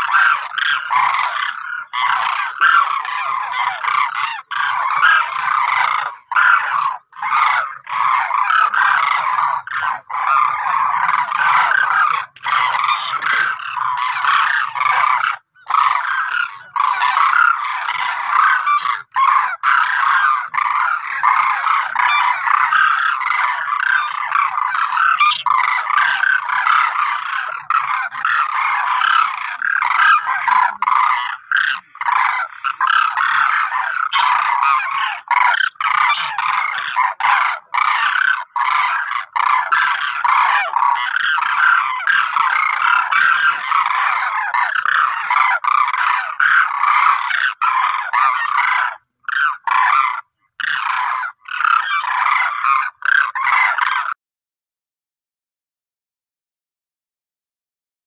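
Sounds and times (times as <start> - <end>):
flock of cranes calling: 0.0 - 54.2.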